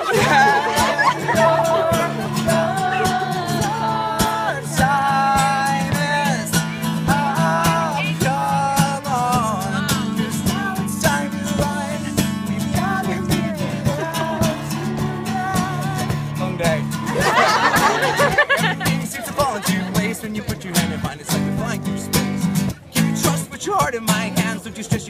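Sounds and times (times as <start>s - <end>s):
acoustic guitar strumming: 0.0s - 25.0s
man singing: 0.0s - 25.0s.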